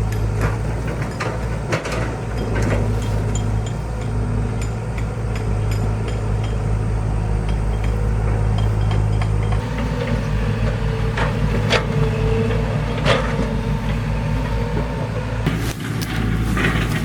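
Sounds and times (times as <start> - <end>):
sharp knocks and clanks: 0.0 - 14.9
engine running steadily: 0.0 - 17.0.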